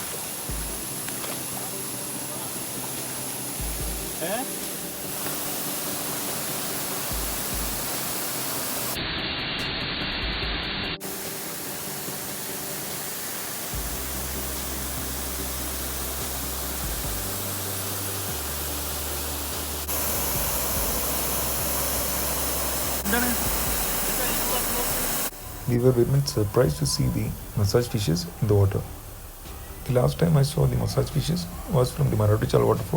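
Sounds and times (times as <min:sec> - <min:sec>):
waterfall rushing: 0:00.0 - 0:09.0, 0:11.0 - 0:32.7.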